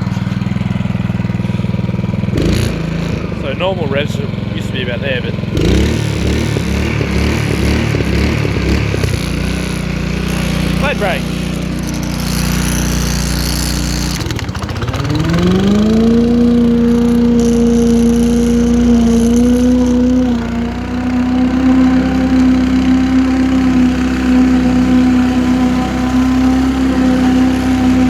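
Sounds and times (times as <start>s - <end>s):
lawn mower petrol engine running: 0.0s - 28.0s.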